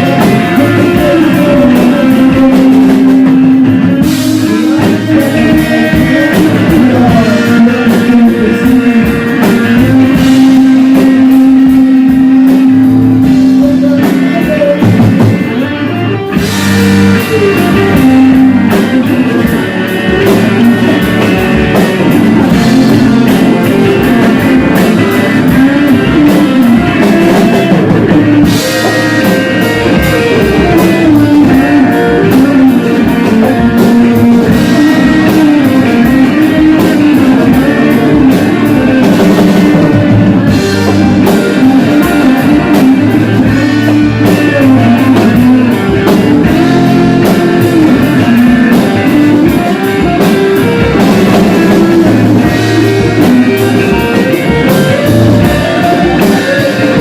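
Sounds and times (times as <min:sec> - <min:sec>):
drum kit playing: 0:00.0 - 0:57.0
electric guitar: 0:00.0 - 0:57.0
loud rock music: 0:00.0 - 0:57.0.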